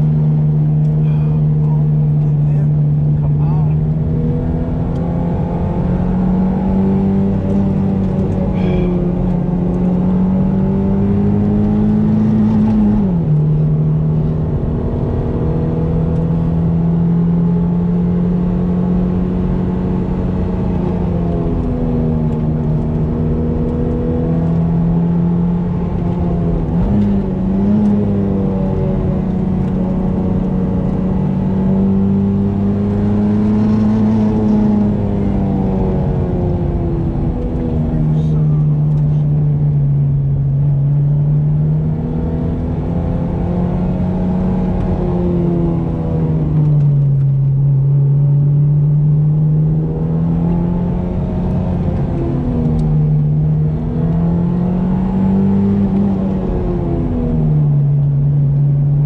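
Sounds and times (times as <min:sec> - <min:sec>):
car engine pulling hard: 0:00.0 - 0:59.0
road noise: 0:00.0 - 0:59.0.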